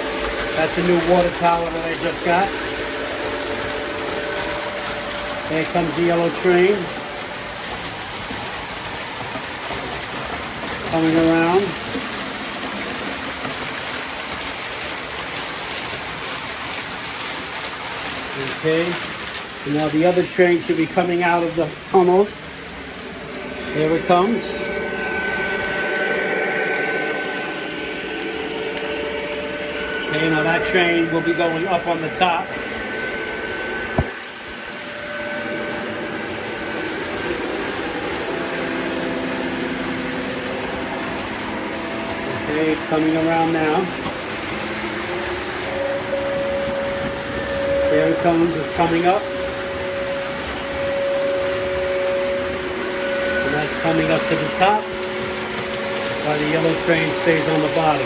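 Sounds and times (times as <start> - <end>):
electric motor hum: 0.0 - 11.0, 22.3 - 58.0
model train running on track: 0.0 - 58.0.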